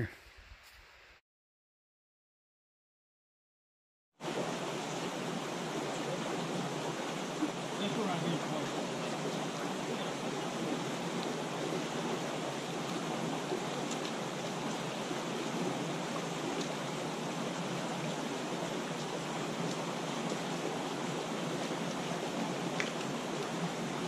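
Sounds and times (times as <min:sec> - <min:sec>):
creek water rushing: 0:04.2 - 0:24.0.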